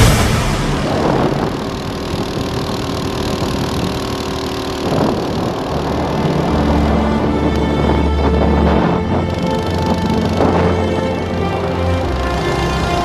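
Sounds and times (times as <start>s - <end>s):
go-kart engine at high revs: 1.0s - 13.0s.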